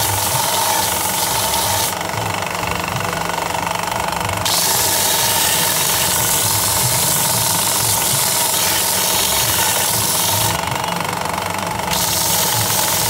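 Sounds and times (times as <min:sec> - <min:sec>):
belt sander motor humming: 0:00.0 - 0:13.0.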